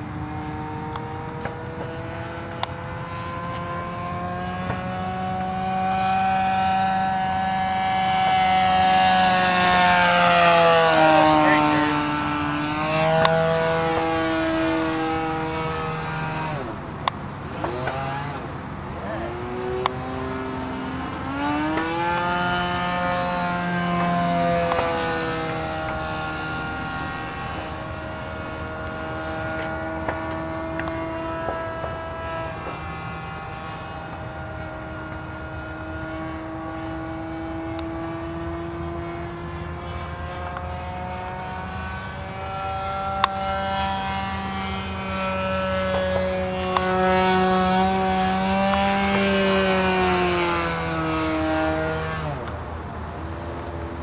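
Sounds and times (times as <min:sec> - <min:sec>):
model airplane engine passing: 0:00.0 - 0:54.0.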